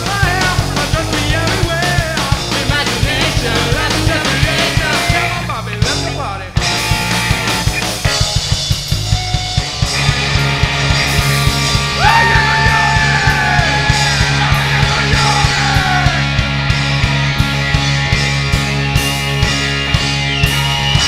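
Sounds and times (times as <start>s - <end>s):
drums fast beat: 0.0s - 21.0s
live rock band playing: 0.0s - 21.0s.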